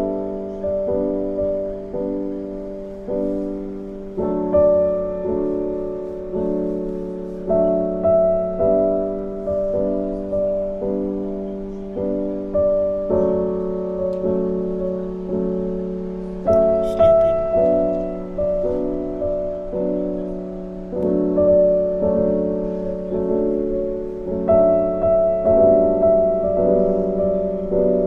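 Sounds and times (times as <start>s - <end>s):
gentle piano piece: 0.0s - 28.0s.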